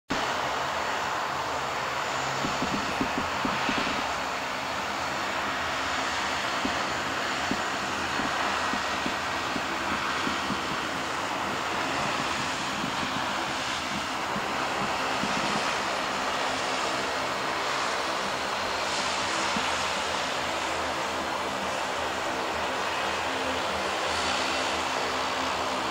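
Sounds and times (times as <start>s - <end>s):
turboprop plane taxiing: 0.1s - 25.9s.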